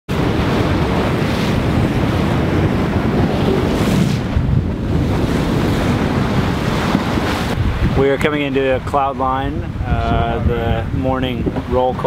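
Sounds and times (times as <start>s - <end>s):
sea water washing along hull: 0.1s - 12.0s
wind buffeting microphone: 0.1s - 12.0s.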